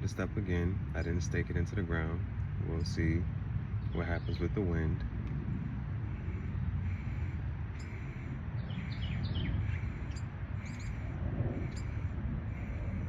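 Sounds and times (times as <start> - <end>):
small birds chirping: 0.0 - 5.0, 6.0 - 13.0
steady low outdoor rumble: 0.0 - 13.0.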